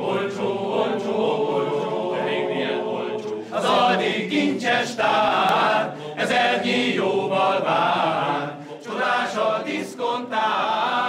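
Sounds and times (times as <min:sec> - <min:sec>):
male choir singing: 0:00.0 - 0:11.0.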